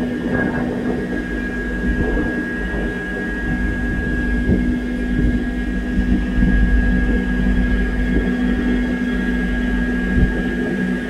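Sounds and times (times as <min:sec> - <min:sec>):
ferry engines droning: 0:00.0 - 0:11.0
high machinery whine: 0:00.0 - 0:11.0
low rumble: 0:00.0 - 0:11.0.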